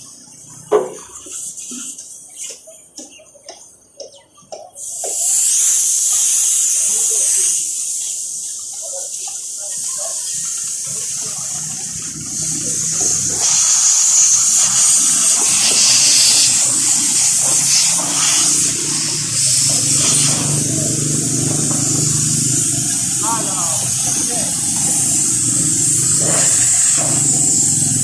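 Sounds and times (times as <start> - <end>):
water spraying: 4.8 - 28.0.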